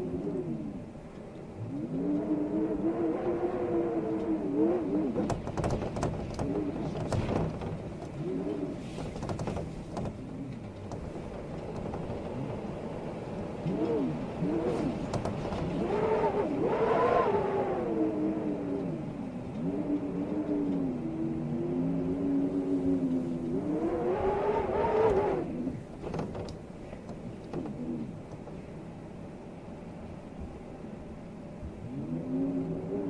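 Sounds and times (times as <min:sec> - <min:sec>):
rustling leaves: 0:00.0 - 0:33.0
storm wind howling in gusts: 0:00.0 - 0:33.0.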